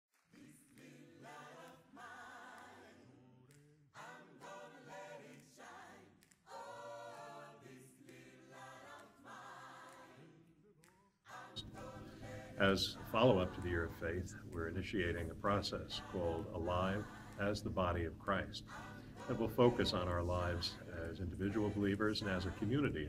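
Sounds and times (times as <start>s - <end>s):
choir singing a cappella: 0.2s - 23.0s.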